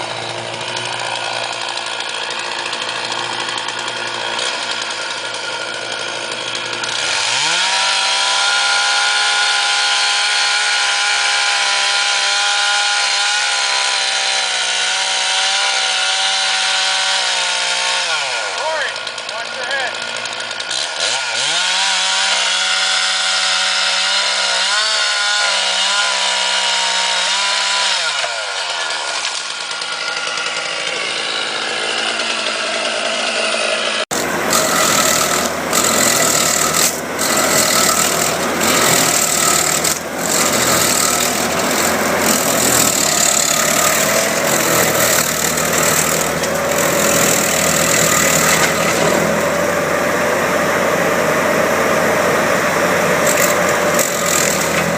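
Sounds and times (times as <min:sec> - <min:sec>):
small engine revving: 0:00.0 - 0:54.9.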